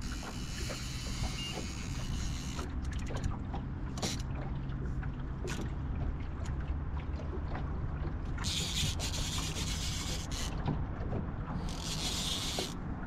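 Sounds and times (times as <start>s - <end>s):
boat low hum and rumble: 0.0s - 13.0s
knocks and clicks from hull: 0.0s - 13.0s.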